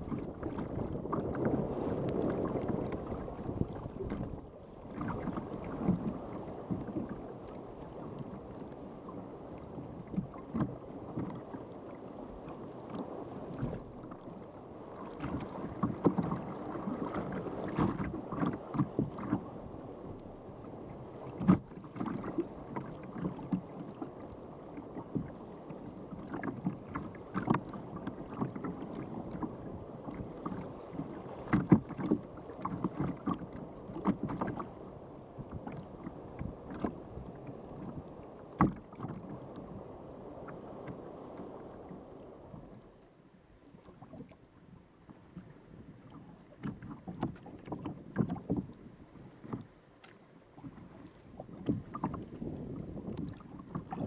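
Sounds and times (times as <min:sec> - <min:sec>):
water slapping against kayak hull: 0:00.0 - 0:43.0, 0:43.6 - 0:54.0.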